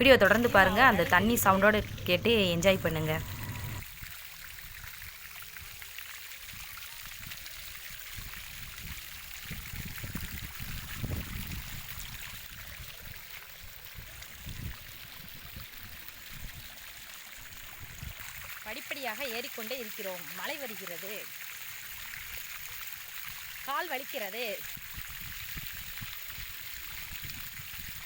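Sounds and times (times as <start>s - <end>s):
water pouring down steps: 3.6s - 28.0s.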